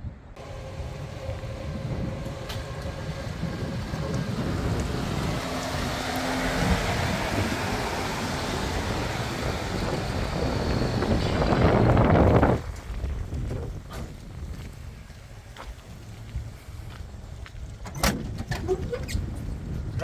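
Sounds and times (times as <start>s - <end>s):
pickup truck engine running: 0.4s - 17.8s.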